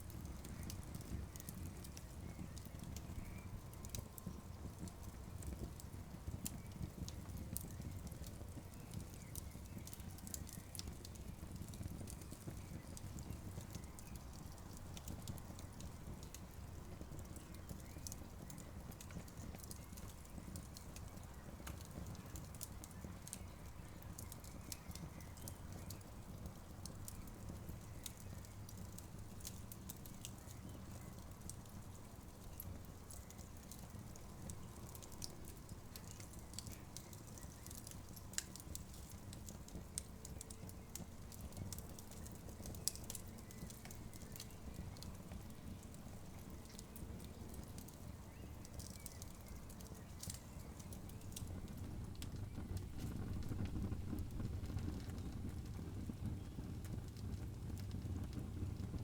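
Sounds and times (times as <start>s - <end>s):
campfire pops and crackles: 0.0s - 59.0s
low rumble of flames: 0.0s - 59.0s.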